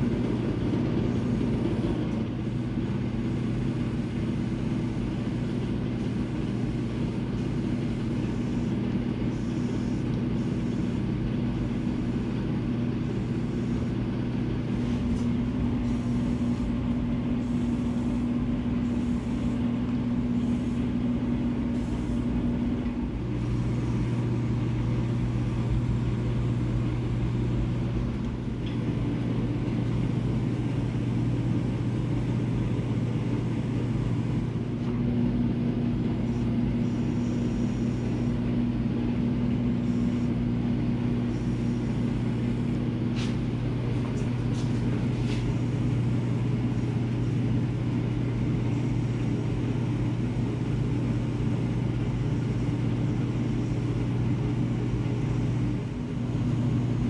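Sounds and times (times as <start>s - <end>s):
low mechanical hum: 0.0s - 57.0s
air spray gun hissing: 0.1s - 34.9s, 35.6s - 57.0s.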